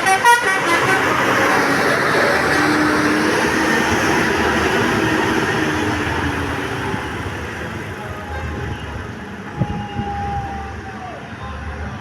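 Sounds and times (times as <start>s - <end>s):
bus passing: 0.0s - 12.0s.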